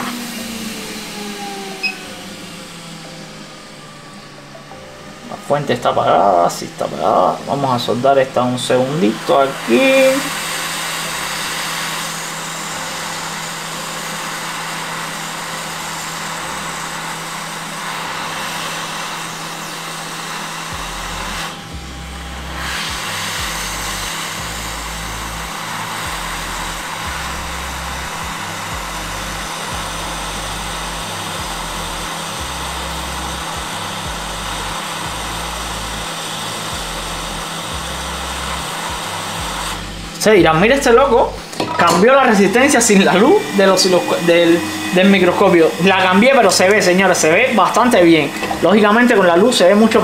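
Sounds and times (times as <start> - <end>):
hot air station hissing: 0.0 - 50.0.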